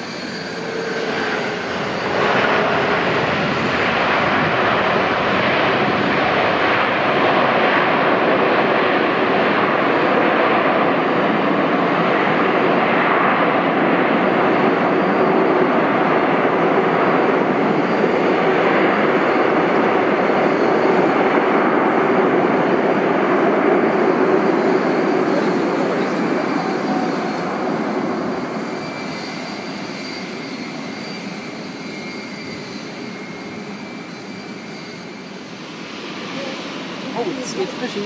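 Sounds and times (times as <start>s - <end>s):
airliner engines running: 0.0s - 38.0s.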